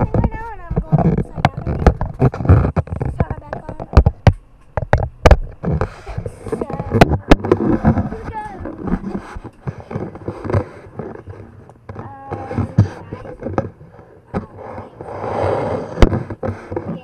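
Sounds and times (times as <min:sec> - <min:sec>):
rustling: 0:00.0 - 0:17.0.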